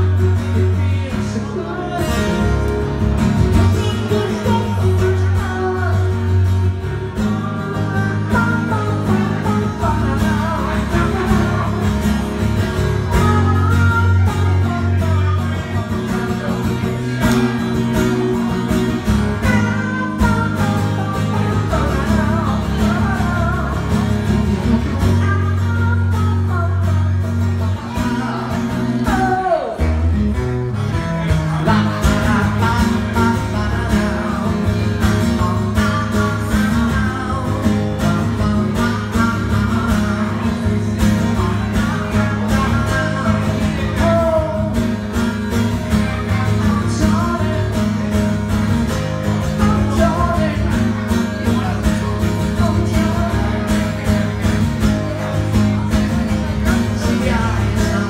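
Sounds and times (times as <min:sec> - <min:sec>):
twelve-string acoustic guitar: 0:00.0 - 0:58.0.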